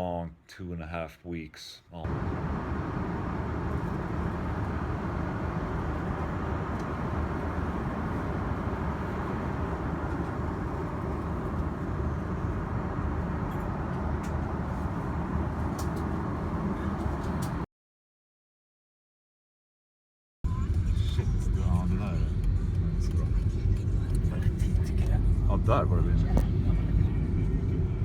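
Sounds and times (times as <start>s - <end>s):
vehicle rumble and hiss: 2.0s - 17.7s, 20.5s - 28.0s.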